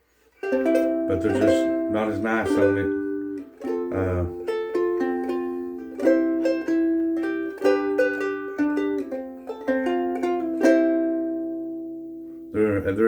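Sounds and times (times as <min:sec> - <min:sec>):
ukulele finger-picked: 0:00.4 - 0:12.5.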